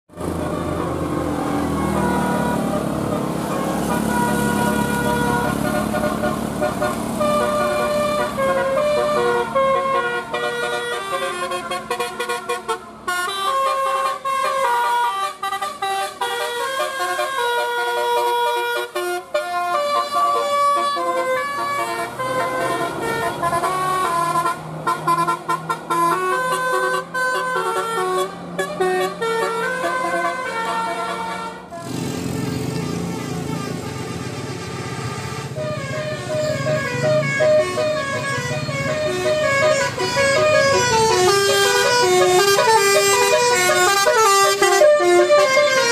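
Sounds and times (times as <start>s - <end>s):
bus engine hum: 0.1s - 45.9s
multi-tone bus horn melody: 0.1s - 45.9s.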